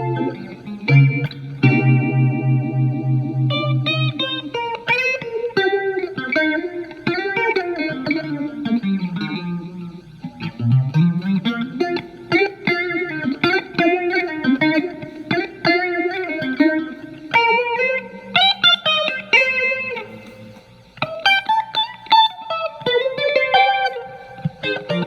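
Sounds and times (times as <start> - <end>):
electric guitar with phaser: 0.0 - 25.0.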